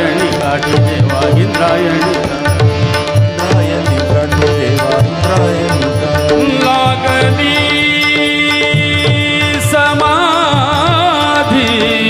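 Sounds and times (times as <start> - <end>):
harmonium held notes: 0.0 - 12.0
tabla strokes: 0.0 - 12.0.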